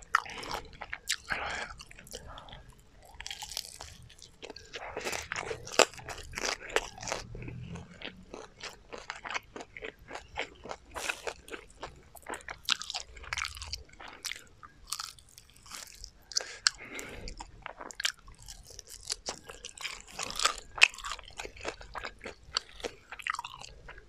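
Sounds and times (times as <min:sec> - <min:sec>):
chewing crispy fried chicken: 0:00.0 - 0:24.0.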